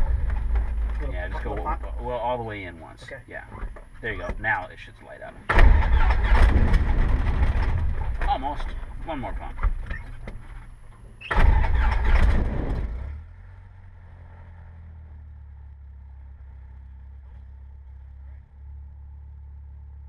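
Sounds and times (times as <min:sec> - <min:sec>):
engine idling drone: 0:00.0 - 0:20.0.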